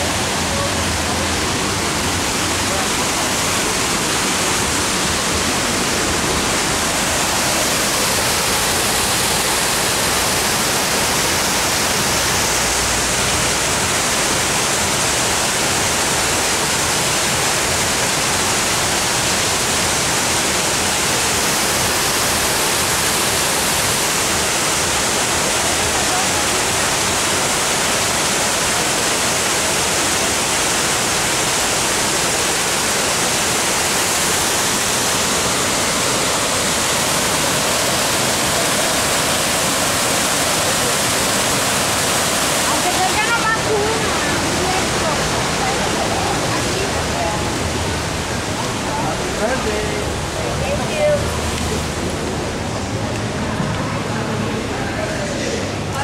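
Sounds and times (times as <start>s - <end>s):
waterfall pouring into pool: 0.0s - 56.0s.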